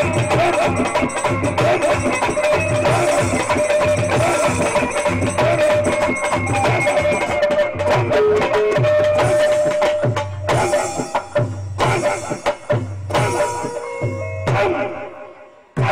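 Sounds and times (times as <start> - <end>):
hand drum fast rhythm: 0.0 - 14.8
folk dance music: 0.0 - 15.9.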